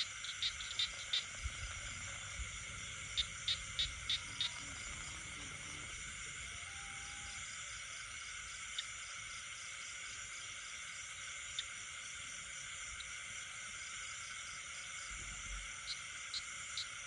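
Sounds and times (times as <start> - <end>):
high-pitched insect drone: 0.0 - 17.0
short sharp frog calls: 0.0 - 17.0.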